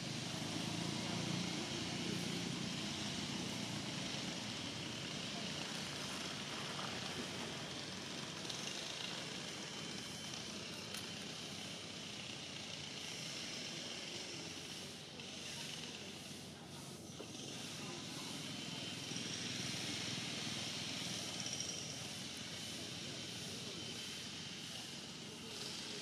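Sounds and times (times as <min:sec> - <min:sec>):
hiss: 0:00.0 - 0:26.0.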